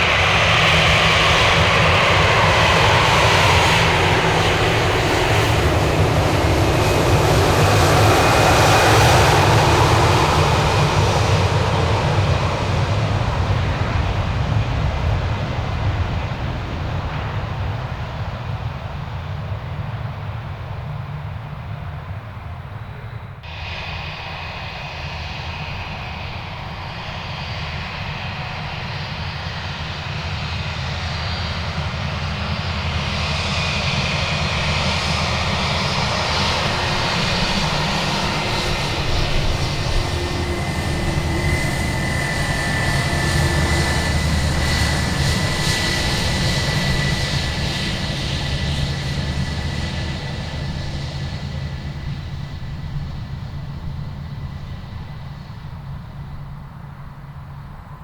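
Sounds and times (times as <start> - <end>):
jet airliner engines passing: 0.0 - 58.0.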